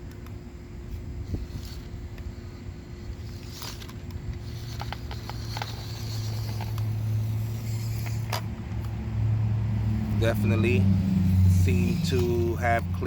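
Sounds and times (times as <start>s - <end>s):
rc car electric motor whining: 0.9s - 8.9s, 9.8s - 13.0s.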